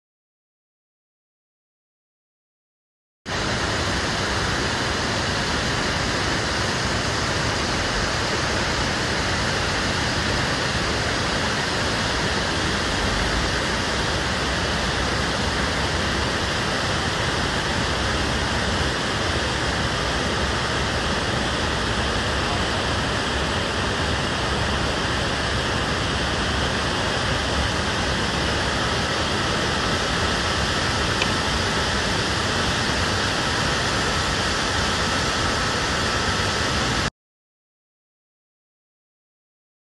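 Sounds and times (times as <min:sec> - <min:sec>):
waterfall rushing: 0:03.3 - 0:37.1.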